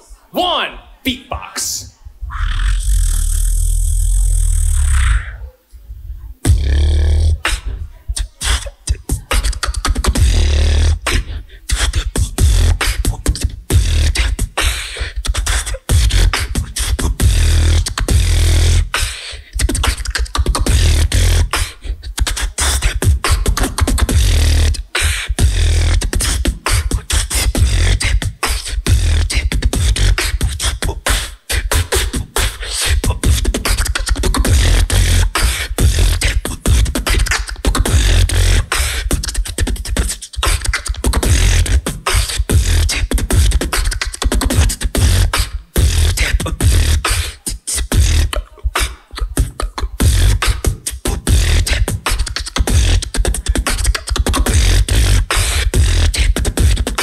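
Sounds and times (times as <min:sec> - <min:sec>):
beatboxing drum patterns: 0:00.0 - 0:05.6, 0:06.4 - 0:57.0.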